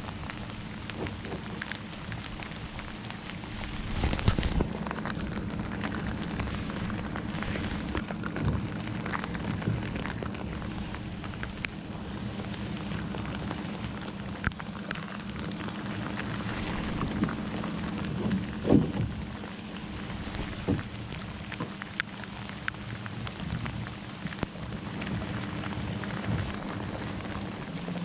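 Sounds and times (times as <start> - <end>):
heavy rain falling: 0.0 - 28.0
steady low hum: 0.0 - 28.0.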